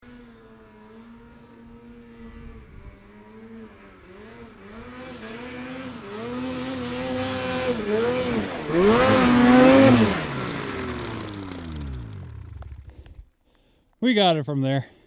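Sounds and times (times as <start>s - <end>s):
snowmobile engine running: 0.0s - 13.2s.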